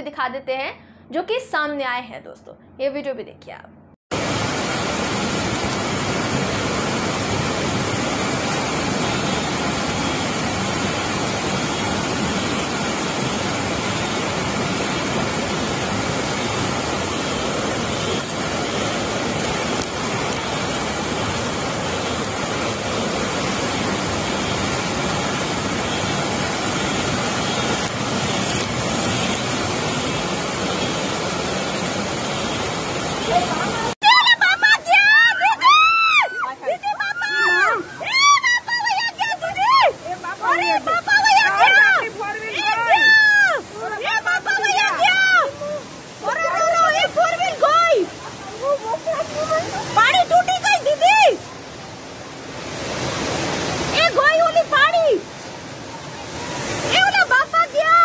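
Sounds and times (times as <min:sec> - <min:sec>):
floodwater rushing: 0:04.1 - 0:58.0.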